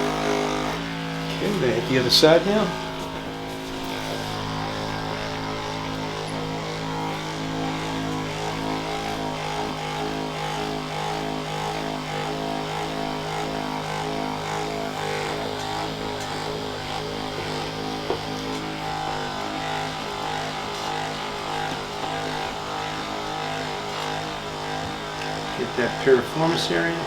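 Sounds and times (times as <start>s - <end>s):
percussion massager humming: 0.0s - 27.0s.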